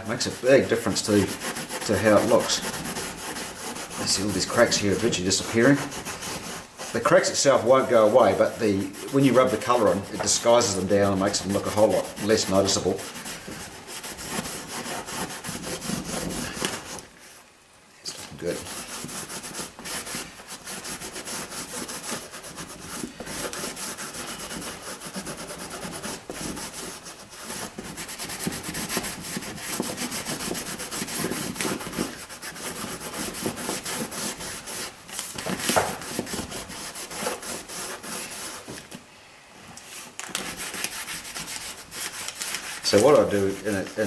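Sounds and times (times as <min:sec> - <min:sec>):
cloth rag scrubbing leather: 0:00.0 - 0:17.5, 0:18.1 - 0:39.0, 0:39.8 - 0:44.0.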